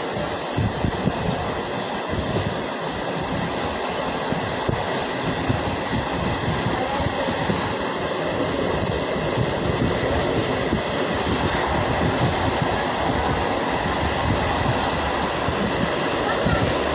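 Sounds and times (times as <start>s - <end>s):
train rumbling and rattling: 0.0s - 16.9s.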